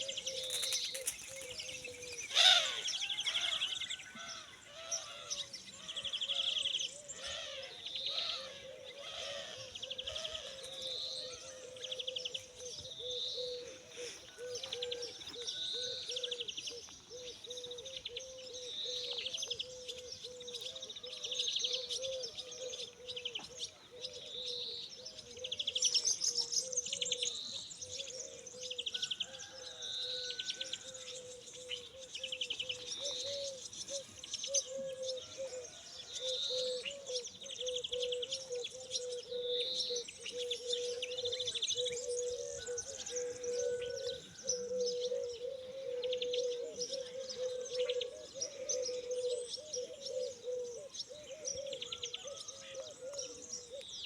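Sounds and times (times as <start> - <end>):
low warbling birdsong: 0.0 - 54.0.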